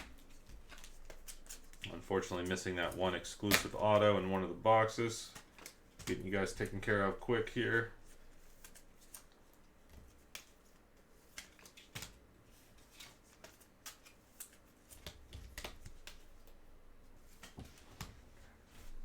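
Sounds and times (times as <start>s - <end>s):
trading cards clicking and rustling: 0.0s - 4.2s, 5.2s - 16.6s.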